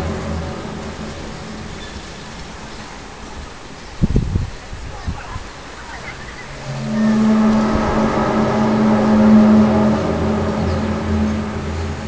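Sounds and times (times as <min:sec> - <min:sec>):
faint wind: 0:00.0 - 0:12.0.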